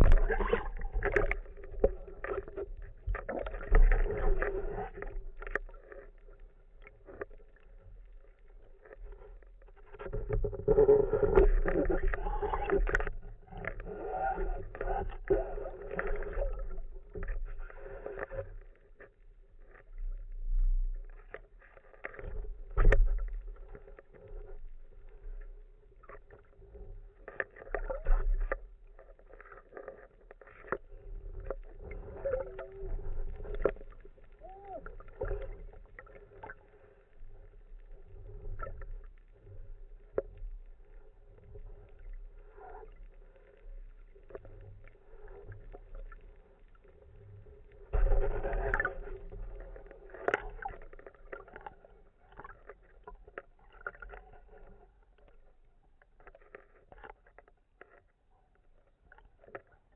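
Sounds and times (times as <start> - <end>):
underwater water swishing and bubbling: 0.0 - 59.9.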